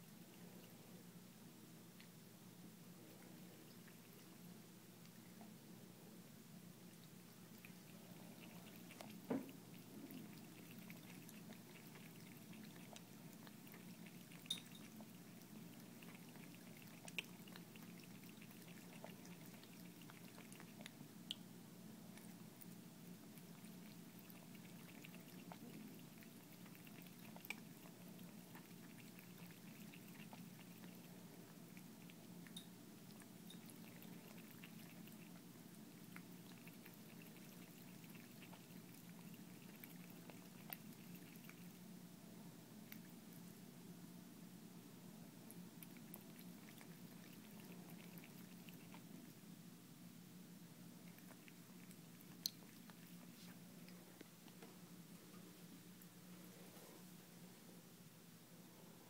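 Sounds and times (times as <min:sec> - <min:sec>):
cat drinking: 0:02.8 - 0:05.6, 0:06.2 - 0:43.7, 0:45.2 - 0:49.6, 0:50.4 - 0:56.2.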